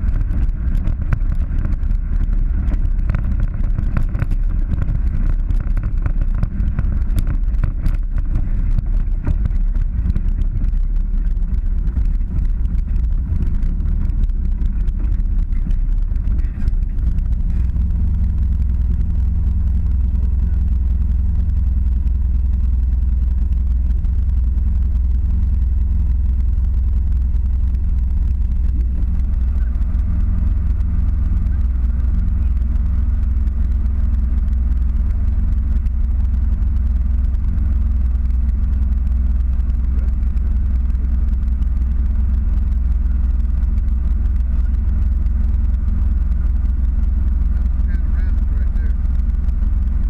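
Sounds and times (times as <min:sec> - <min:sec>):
vehicle engine drone: 0:00.0 - 0:50.0.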